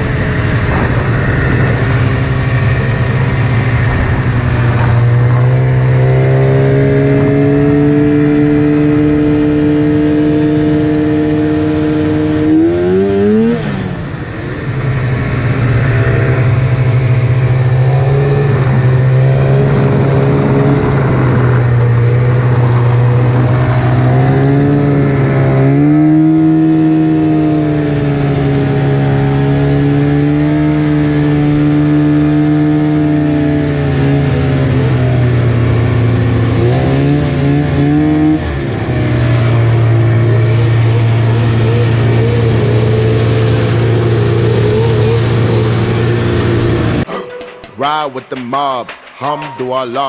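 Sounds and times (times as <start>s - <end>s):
snowmobile engine running: 0.0s - 47.1s.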